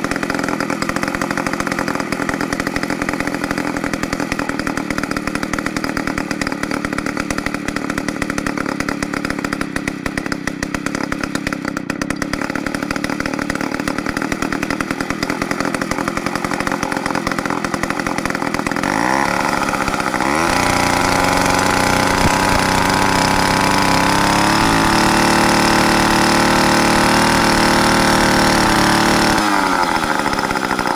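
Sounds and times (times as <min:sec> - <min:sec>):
chainsaw engine revving: 0:00.0 - 0:30.9.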